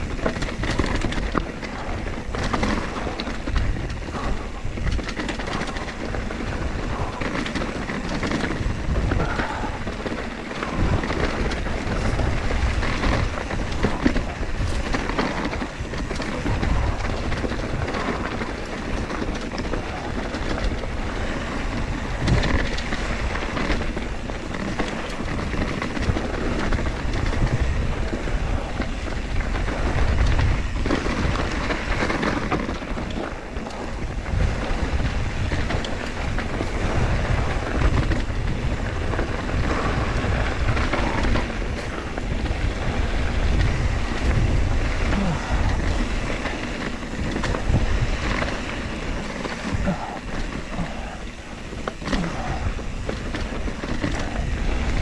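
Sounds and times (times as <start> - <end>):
bike rattling and knocking: 0.0 - 55.0
bike tyres rumbling on dirt: 0.0 - 55.0
wind buffeting microphone: 0.0 - 55.0.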